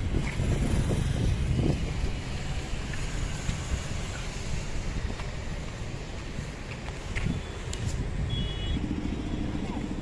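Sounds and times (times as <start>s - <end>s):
road traffic rumble: 0.0s - 10.0s
wind noise on microphone: 0.0s - 10.0s.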